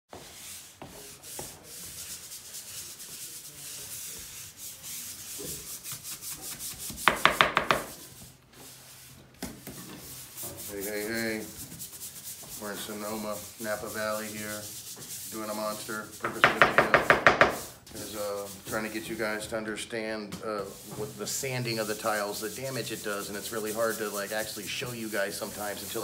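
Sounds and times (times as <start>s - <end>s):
scrubbing on wet tile: 0.2s - 18.8s, 20.7s - 26.0s.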